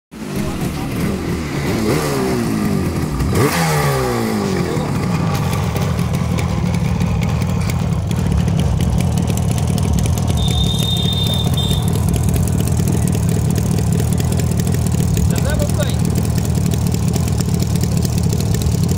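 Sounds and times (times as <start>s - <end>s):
two-stroke engine revving and idling: 0.1s - 18.9s.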